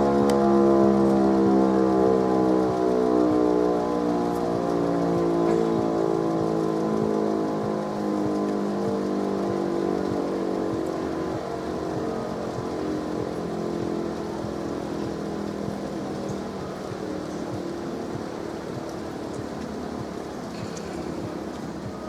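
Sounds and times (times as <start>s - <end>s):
electric motor siren steady tone: 0.0s - 22.0s.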